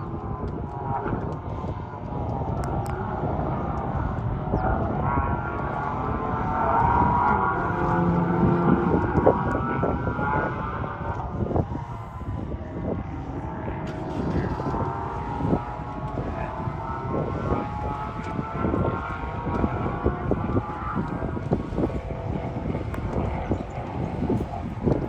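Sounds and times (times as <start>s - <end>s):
sports car engine at high revs: 0.0s - 25.0s.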